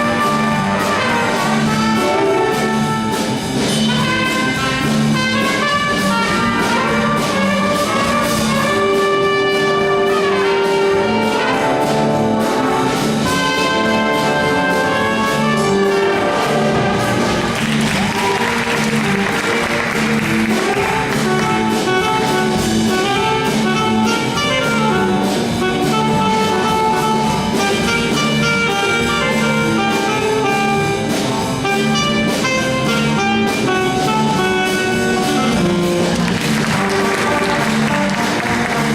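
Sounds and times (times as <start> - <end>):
brass instruments: 0.0 - 38.9
school band playing: 0.0 - 38.9.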